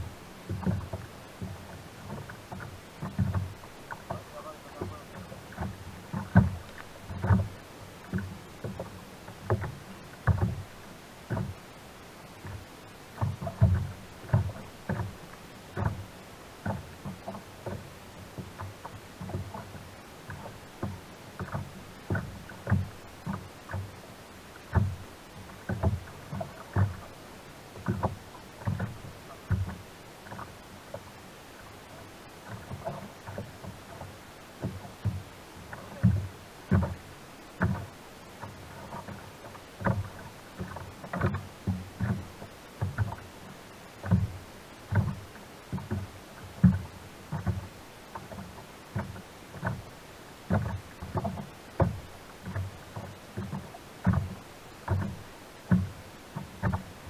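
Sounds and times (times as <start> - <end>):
waves slapping a kayak hull: 0.0 - 57.0.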